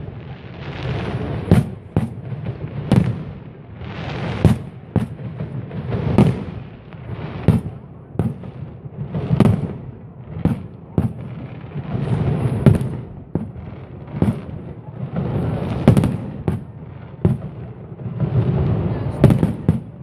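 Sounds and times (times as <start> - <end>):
fireworks crackling: 0.0 - 20.0
firework shells bursting with bangs: 0.2 - 20.0.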